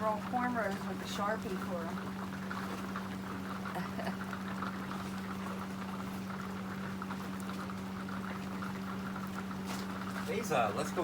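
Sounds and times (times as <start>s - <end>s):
fizzing patter of ticks: 0.0s - 11.0s
steady background hum: 0.0s - 11.0s.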